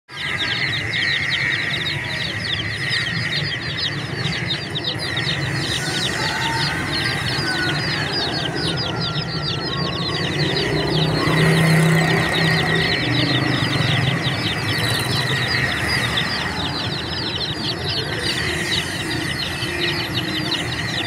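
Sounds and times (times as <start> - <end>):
baby chicks peeping: 0.1 - 21.0.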